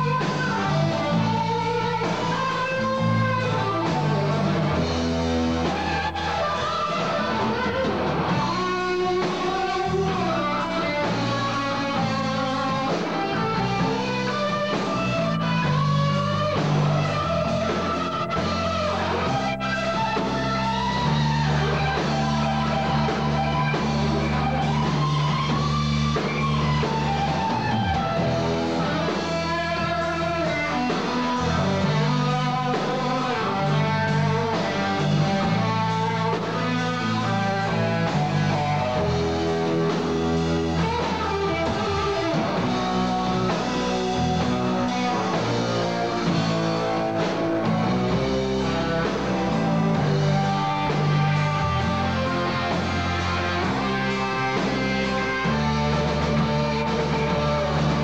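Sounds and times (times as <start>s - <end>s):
bass guitar: 0.0s - 58.0s
drum kit: 0.0s - 58.0s
electric guitar with bent notes: 0.0s - 58.0s.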